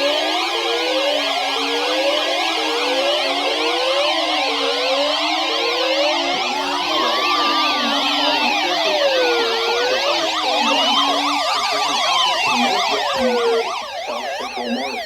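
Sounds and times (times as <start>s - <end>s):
wailing electronic sirens: 0.0s - 15.0s
yelping sirens: 0.0s - 15.0s.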